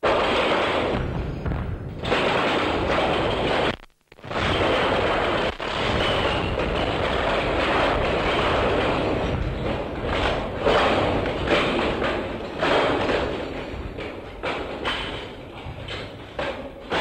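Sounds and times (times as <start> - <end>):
balls knocking: 0.0 - 17.0.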